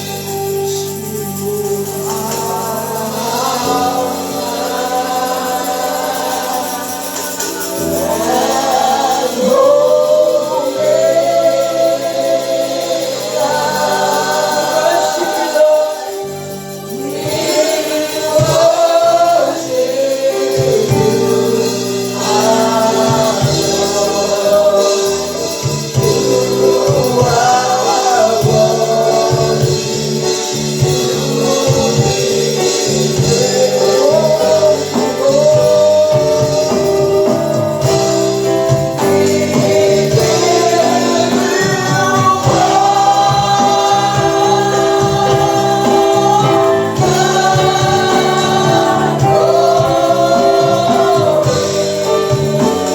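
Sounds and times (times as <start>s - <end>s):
group of voices singing: 0.0s - 52.9s
sustained keyboard chords: 0.0s - 52.9s
tambourine: 0.0s - 52.9s.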